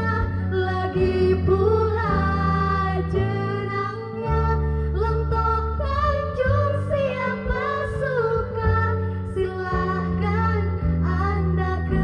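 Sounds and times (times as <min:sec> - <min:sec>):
instrumental backing: 0:00.0 - 0:12.0
woman singing: 0:00.0 - 0:12.0.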